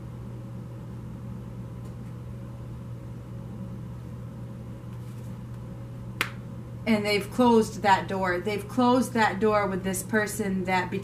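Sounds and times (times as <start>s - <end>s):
low room hum with hiss: 0.0s - 11.0s.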